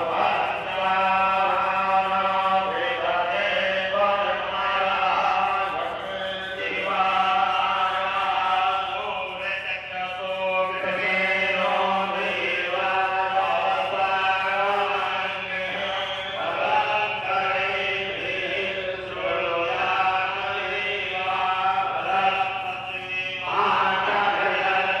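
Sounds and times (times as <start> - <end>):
person chanting mantras: 0.0 - 25.0.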